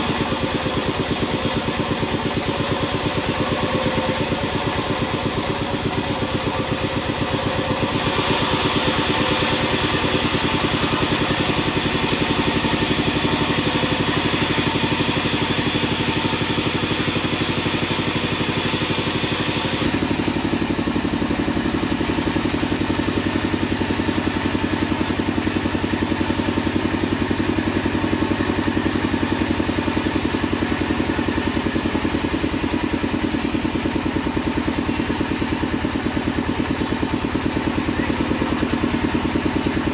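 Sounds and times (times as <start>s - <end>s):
band saw mill running: 0.0s - 39.9s.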